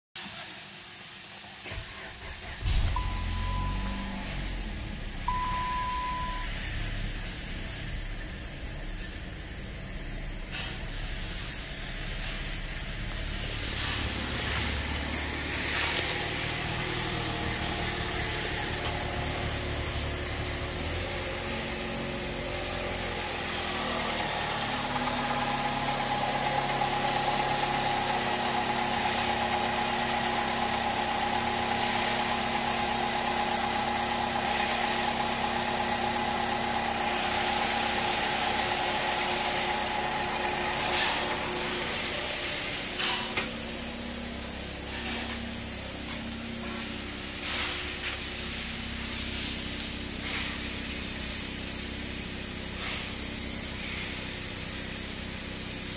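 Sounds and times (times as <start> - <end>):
car engine idling: 1.9 - 52.7.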